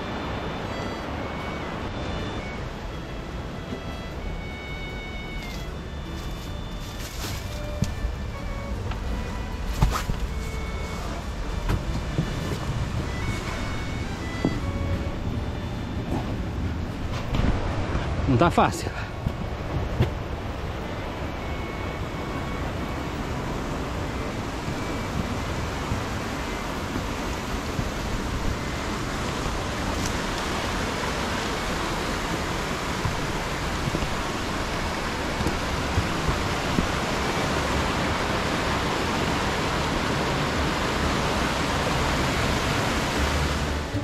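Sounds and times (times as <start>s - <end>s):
wind rushing over microphone: 5.7s - 44.0s.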